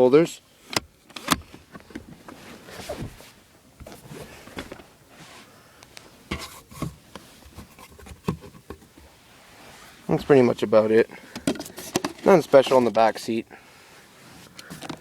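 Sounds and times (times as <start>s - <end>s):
rustling and handling noise: 0.6s - 15.0s.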